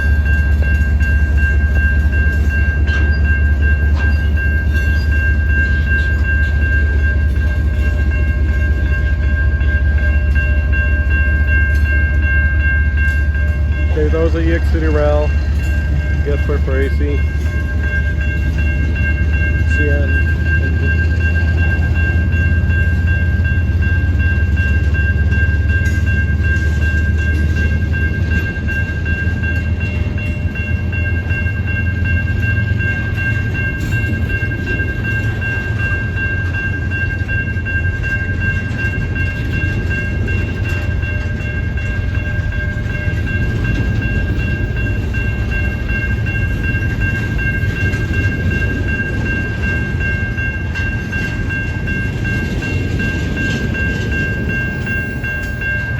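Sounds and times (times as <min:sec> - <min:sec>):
freight cars rumbling on rails: 0:00.0 - 0:55.9.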